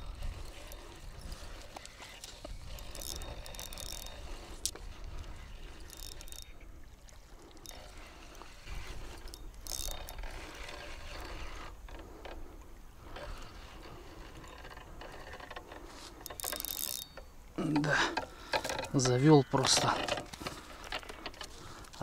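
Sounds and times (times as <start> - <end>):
fishing reel clicking and whirring: 0.0 - 19.9.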